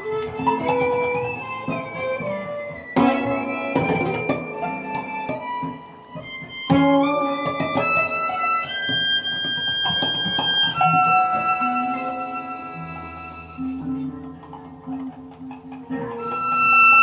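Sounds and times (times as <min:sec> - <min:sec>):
acoustic guitar: 0:00.0 - 0:17.0
violin bowed notes: 0:00.0 - 0:17.0.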